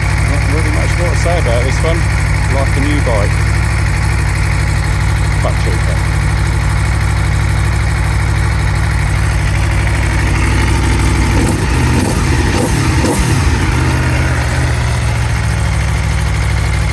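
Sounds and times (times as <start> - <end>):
motorcycle engine idling: 0.0 - 16.9
motorcycle throttle blips: 0.0 - 16.9.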